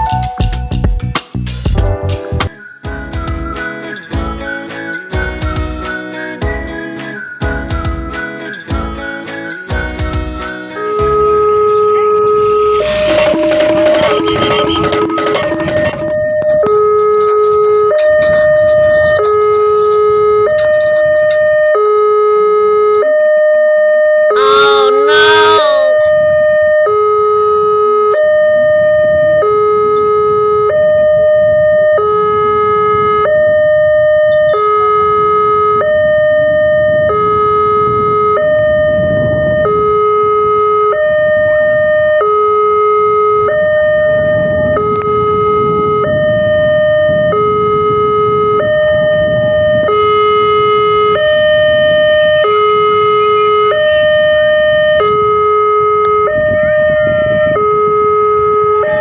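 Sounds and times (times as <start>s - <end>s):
two-tone crossing alarm: 7.5s - 59.0s.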